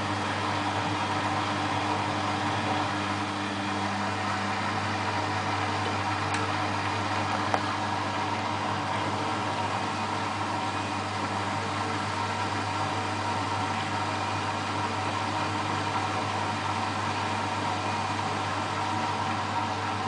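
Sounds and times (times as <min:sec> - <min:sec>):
washing machine spin cycle hum: 0:00.0 - 0:20.0.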